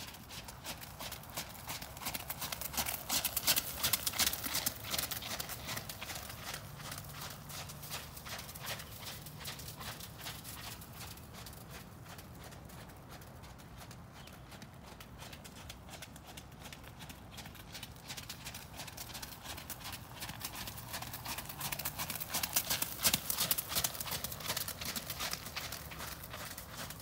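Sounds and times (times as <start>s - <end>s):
horse hoofbeats on wet ground: 0.0s - 27.0s.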